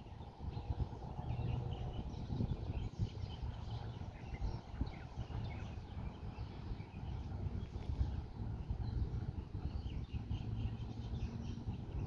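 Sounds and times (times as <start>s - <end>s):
birds chirping: 0.0s - 12.0s
wind rumbling on microphone: 0.0s - 12.0s.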